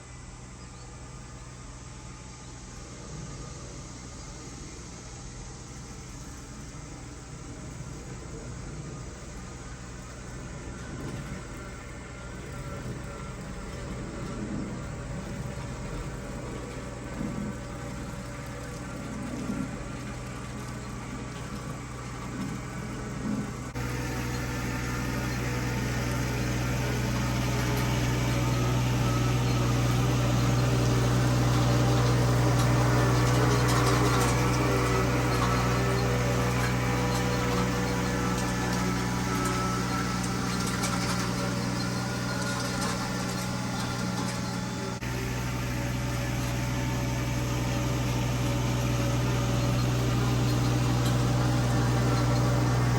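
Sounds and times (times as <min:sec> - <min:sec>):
vehicle engine humming: 0:00.0 - 0:52.9.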